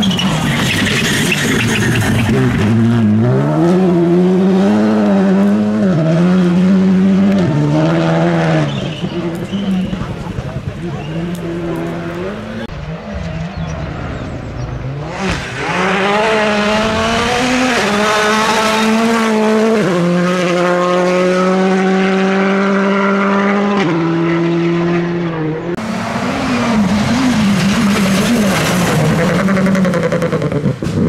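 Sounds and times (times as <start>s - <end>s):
rally car engine at high revs: 0.0s - 31.0s.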